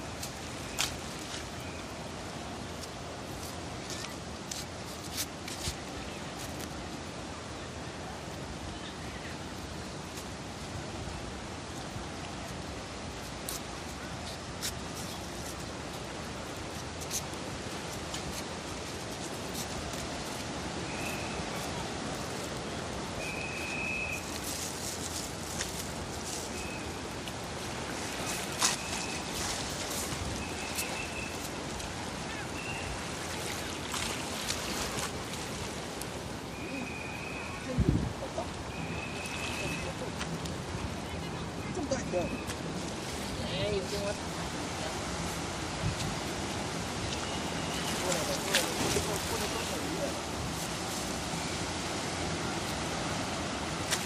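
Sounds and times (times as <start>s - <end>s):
wind: 0.0s - 54.0s
surf rushing: 9.4s - 54.0s.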